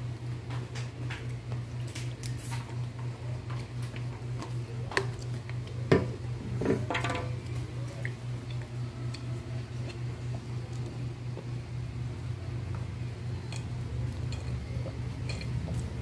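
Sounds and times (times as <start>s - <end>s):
child eating: 1.2s - 16.0s.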